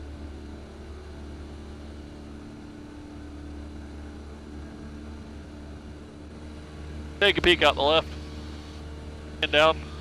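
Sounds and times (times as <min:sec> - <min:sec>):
airplane engine and propeller drone: 0:00.0 - 0:10.0.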